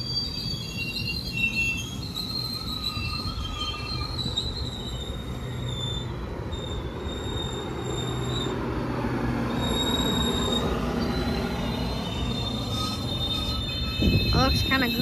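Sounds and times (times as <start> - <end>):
train rumble: 0.0 - 15.0
train wheels squealing: 0.0 - 15.0.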